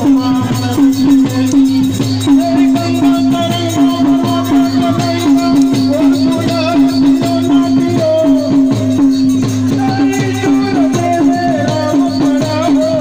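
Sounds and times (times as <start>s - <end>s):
drum beating steady rhythm: 0.0s - 13.0s
held melody line: 0.0s - 13.0s
high rattling percussion: 0.0s - 13.0s.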